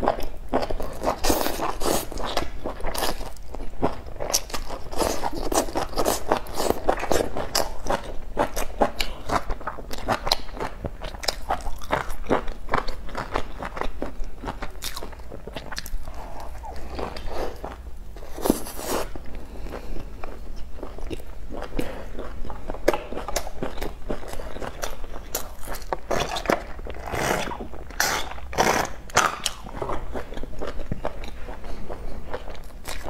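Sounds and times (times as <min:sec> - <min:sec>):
person chewing crusty bread: 0:00.0 - 0:33.0.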